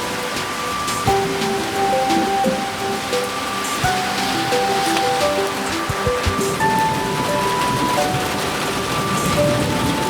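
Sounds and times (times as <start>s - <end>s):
music with held notes: 0.0s - 10.0s
steady rain: 0.0s - 10.0s.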